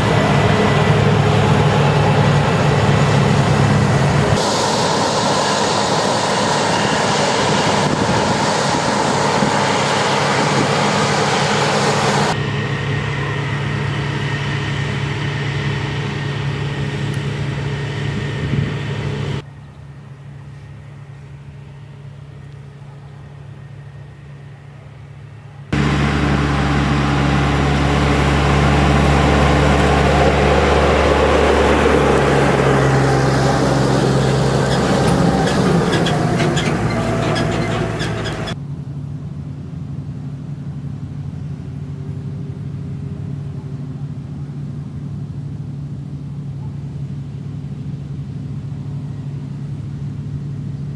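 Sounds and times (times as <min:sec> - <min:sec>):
heavy farm machinery engines running: 0:00.0 - 0:50.9.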